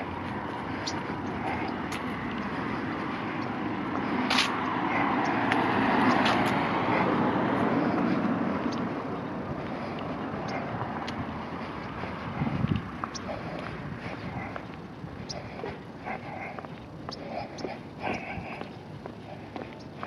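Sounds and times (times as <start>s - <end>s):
car passing: 0.0s - 20.0s.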